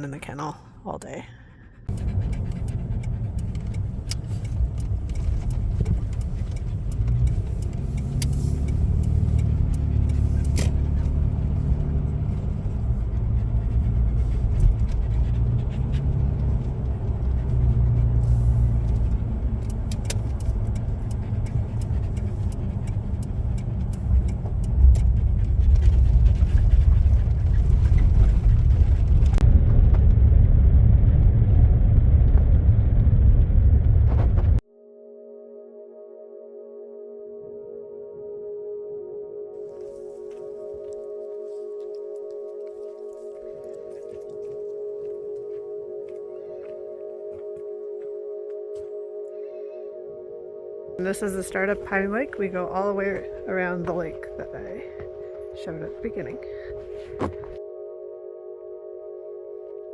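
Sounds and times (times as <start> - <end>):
road noise: 0.0 - 34.6, 39.5 - 49.4, 50.2 - 57.6
car engine rumble: 0.0 - 34.7, 38.2 - 49.3, 50.2 - 59.9.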